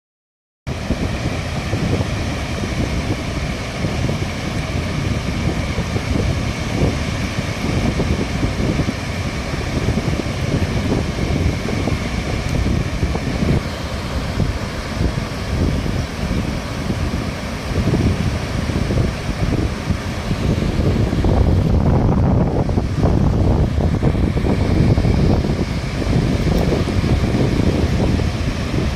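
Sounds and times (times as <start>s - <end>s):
waterfall roaring: 0.7s - 28.9s.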